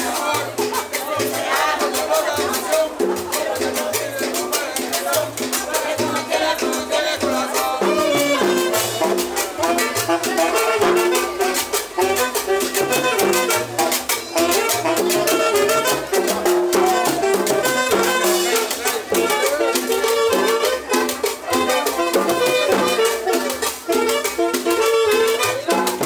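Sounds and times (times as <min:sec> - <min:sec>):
live band playing: 0:00.0 - 0:26.0
saxophone: 0:00.0 - 0:26.0.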